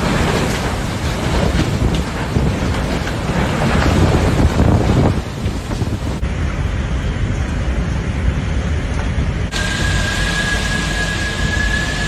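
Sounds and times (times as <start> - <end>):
storm wind buffeting microphone: 0.0 - 12.0.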